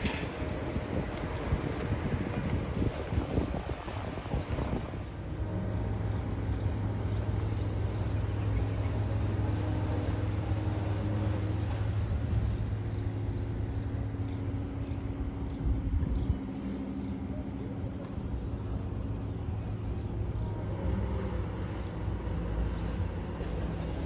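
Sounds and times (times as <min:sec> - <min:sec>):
low riverboat engine drone: 0:00.0 - 0:24.0.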